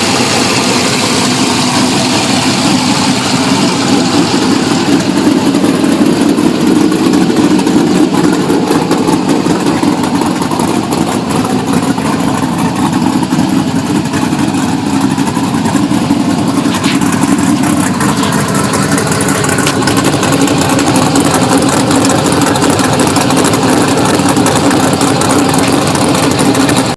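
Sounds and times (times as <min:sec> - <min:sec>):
vee eight engine idling: 0:00.0 - 0:26.9.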